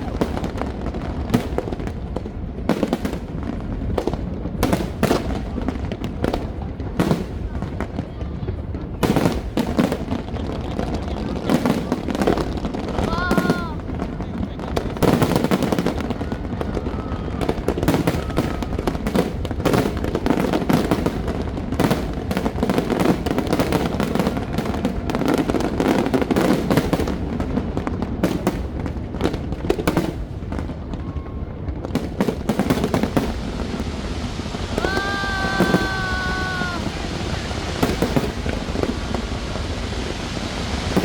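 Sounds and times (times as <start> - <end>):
large crowd chatter: 0.0 - 40.8
fireworks bangs and crackles: 0.0 - 41.0.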